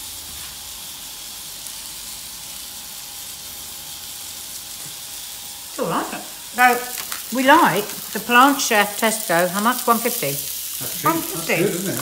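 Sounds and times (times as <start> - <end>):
burgers sizzling in a pan: 0.0 - 12.0.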